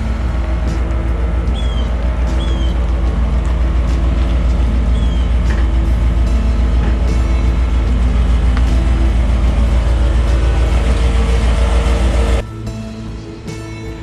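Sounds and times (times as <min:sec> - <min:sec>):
bird chirping: 0:00.0 - 0:12.4
low engine rumble: 0:00.0 - 0:14.0.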